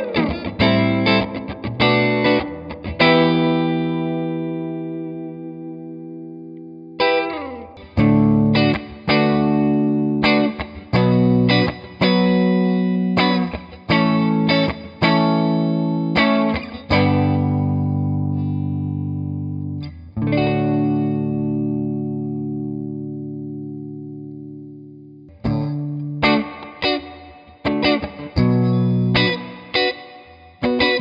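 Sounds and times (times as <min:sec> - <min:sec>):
electric guitar chords with reverb: 0:00.0 - 0:31.0.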